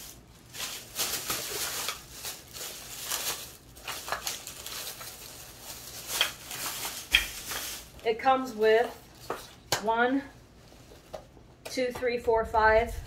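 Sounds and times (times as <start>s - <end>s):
plastic bag rustling: 0.0s - 9.7s, 10.3s - 11.4s.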